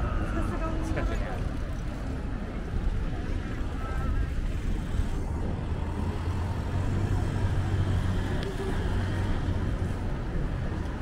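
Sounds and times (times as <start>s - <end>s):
road noise: 0.0s - 11.0s
vehicle engine running close by: 1.4s - 11.0s.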